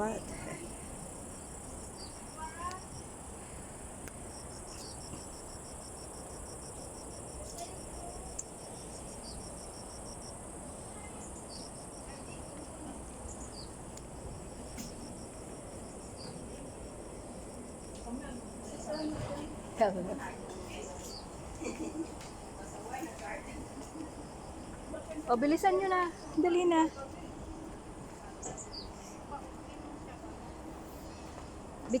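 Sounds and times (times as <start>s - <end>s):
steady high insect hiss: 0.0s - 32.0s.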